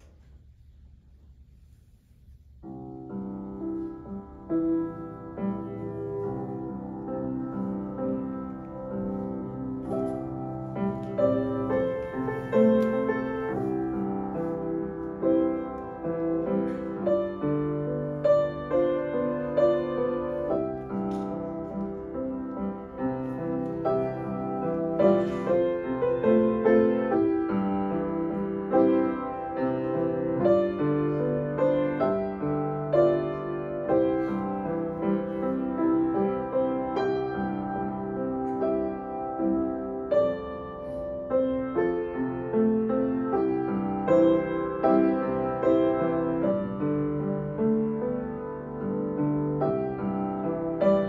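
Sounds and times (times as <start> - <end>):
solo piano: 0.0 - 51.0.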